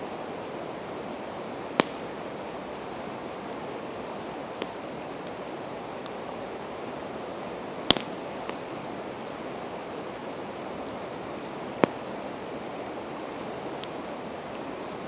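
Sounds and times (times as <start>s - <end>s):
campfire crackling: 0.0s - 15.0s
river rushing: 0.0s - 15.0s
wood fire popping: 1.1s - 14.1s.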